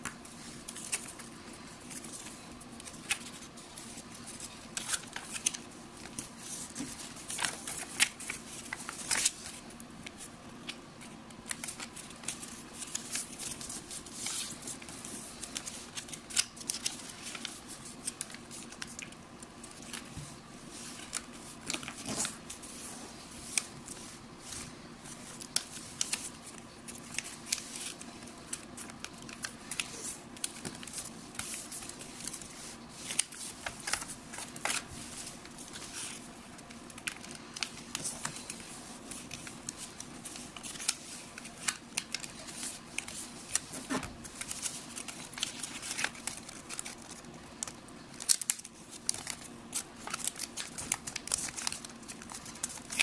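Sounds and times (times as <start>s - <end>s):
crisp clicks of paper folds: 0.0s - 53.0s
paper rustling and crinkling: 0.0s - 53.0s.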